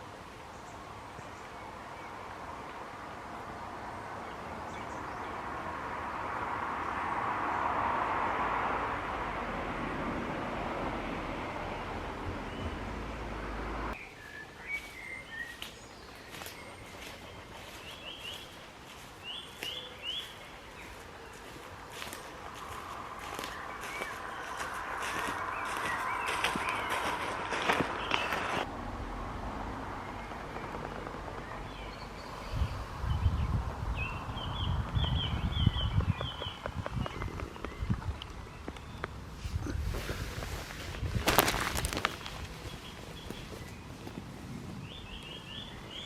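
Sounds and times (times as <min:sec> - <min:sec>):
birds chirping: 0:00.1 - 0:28.7, 0:29.7 - 0:46.0.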